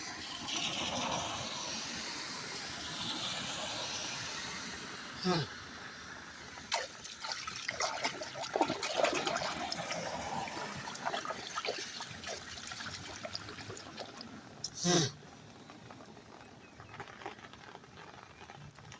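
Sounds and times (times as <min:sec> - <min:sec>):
rainwater gurgling into drain pipe: 0:00.0 - 0:18.9
water splashes and trickles: 0:00.0 - 0:18.9.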